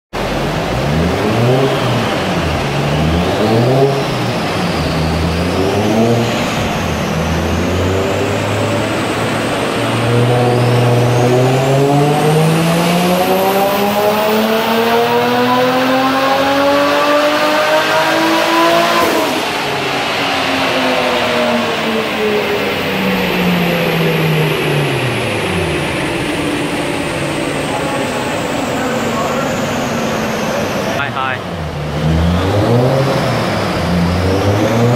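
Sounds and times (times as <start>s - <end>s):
car engine revving: 0.1s - 34.9s
high turbo whine: 0.1s - 34.9s.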